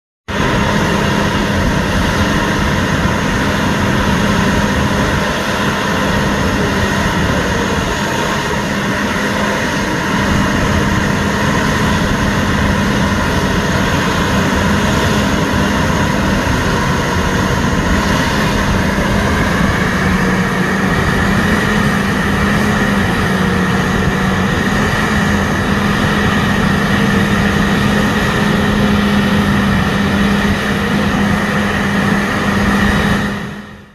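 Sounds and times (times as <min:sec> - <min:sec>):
shredder machine drone: 0:00.3 - 0:33.9.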